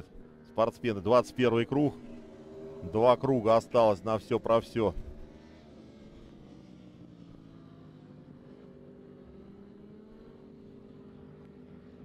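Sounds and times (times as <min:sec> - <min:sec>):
distant motorcycle engines droning: 0:00.0 - 0:12.0.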